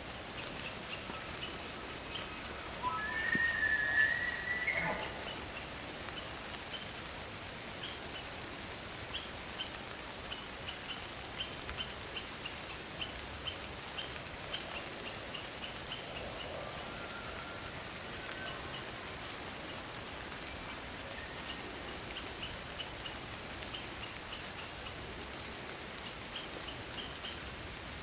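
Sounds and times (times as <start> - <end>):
rain: 0.0 - 28.0
wind: 0.0 - 28.0.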